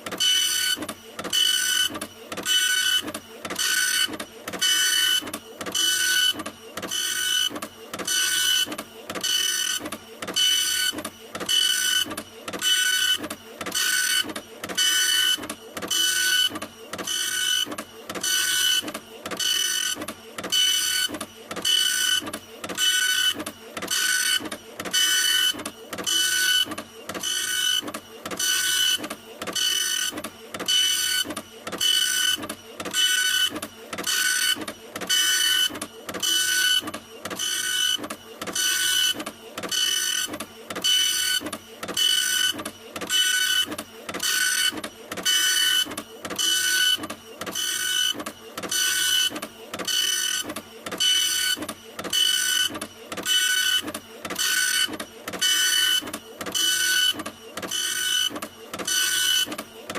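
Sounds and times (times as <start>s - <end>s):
printer whirring: 0.0s - 59.9s.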